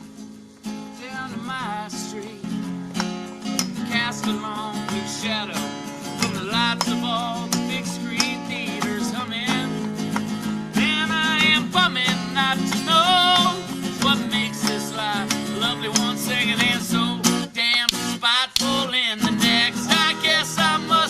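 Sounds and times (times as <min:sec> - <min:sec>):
strummed acoustic guitar: 0:00.0 - 0:21.0.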